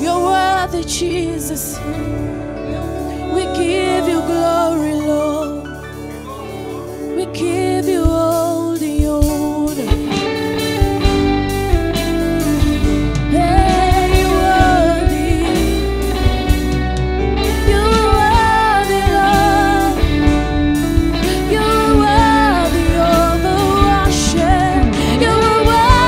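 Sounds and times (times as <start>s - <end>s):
person singing: 0.0s - 10.2s, 12.7s - 16.6s, 17.4s - 20.4s, 21.1s - 26.0s
worship band playing: 0.0s - 26.0s.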